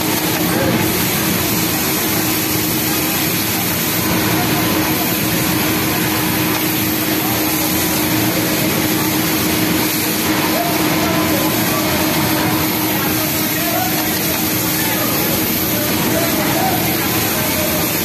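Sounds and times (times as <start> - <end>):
din of other sewing machines: 0.0 - 18.0.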